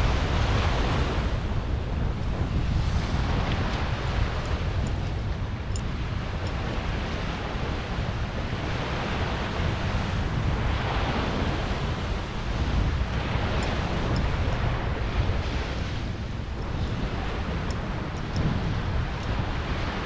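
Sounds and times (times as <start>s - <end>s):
ocean surf washing on shore: 0.0s - 20.0s
wind buffeting microphone: 0.0s - 20.0s.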